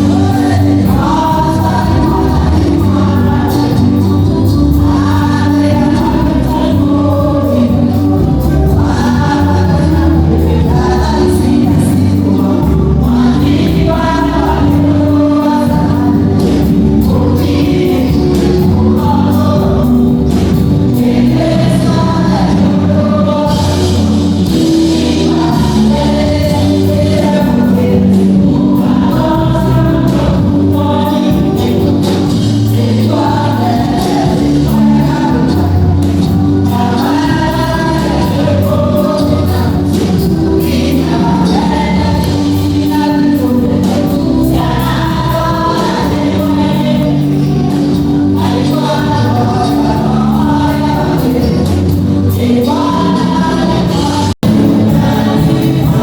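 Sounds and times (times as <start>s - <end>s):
band with bass and beat: 0.0s - 56.0s
choir singing gospel song: 0.0s - 56.0s.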